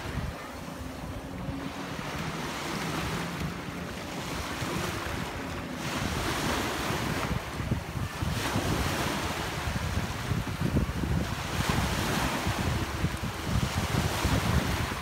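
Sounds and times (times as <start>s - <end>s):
choppy sea waves: 0.0s - 15.0s
jet ski engine droning: 0.0s - 15.0s
wind buffeting microphone: 0.0s - 15.0s.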